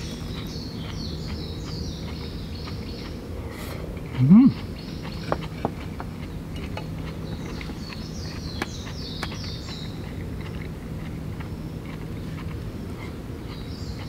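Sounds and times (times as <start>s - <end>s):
bird singing: 0.0s - 3.4s, 4.0s - 14.0s
steady low hum: 0.0s - 14.0s.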